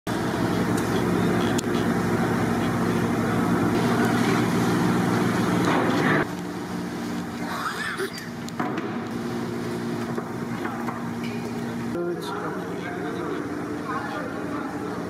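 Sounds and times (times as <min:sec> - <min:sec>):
mechanical drone: 0:00.1 - 0:15.0.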